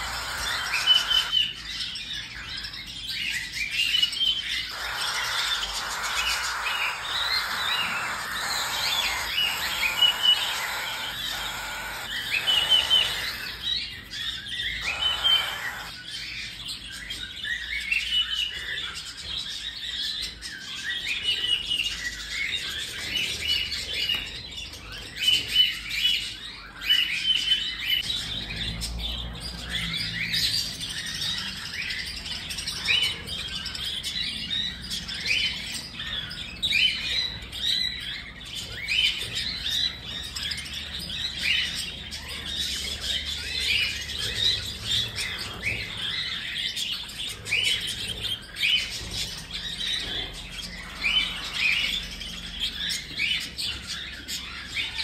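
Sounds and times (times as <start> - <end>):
cockatiels chirping: 0.0 - 28.6, 29.4 - 55.0.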